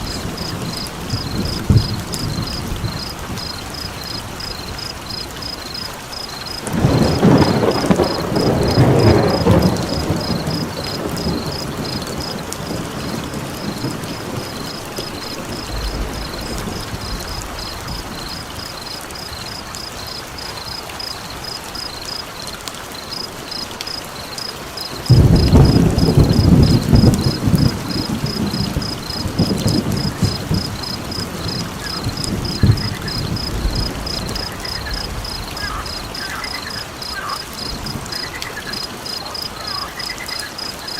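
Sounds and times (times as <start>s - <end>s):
thunder rumbling: 0.0s - 22.0s, 24.9s - 40.9s
steady rain: 0.0s - 40.9s.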